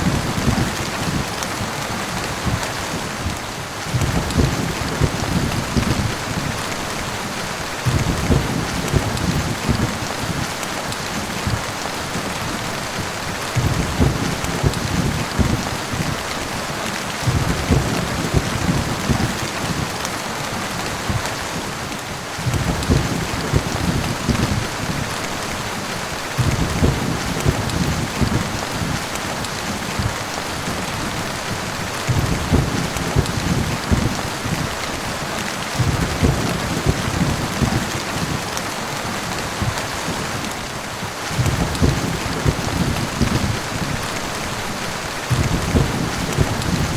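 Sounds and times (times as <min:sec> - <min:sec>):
thunder rumbling: 0:00.0 - 0:16.6, 0:17.2 - 0:20.0, 0:20.8 - 0:46.9
heavy rain falling: 0:00.0 - 0:46.9.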